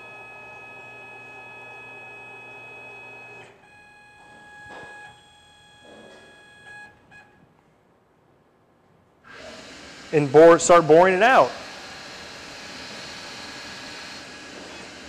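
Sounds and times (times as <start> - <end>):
lathe motors whining: 0.0 - 7.4, 9.3 - 15.0.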